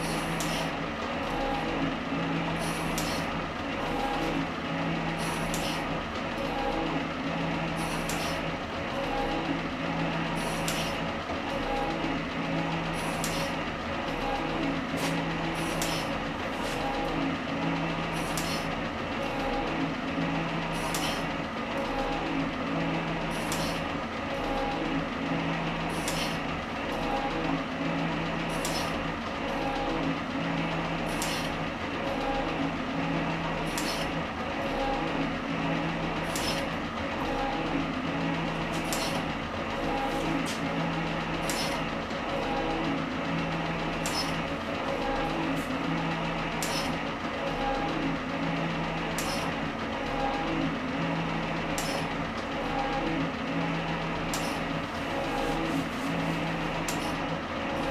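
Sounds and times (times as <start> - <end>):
metal shaper motor hum: 0.0 - 57.9.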